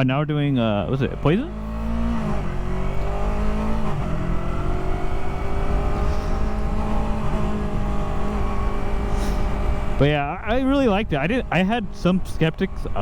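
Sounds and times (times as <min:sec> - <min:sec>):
motorcycle engine accelerating: 0:00.6 - 0:13.0.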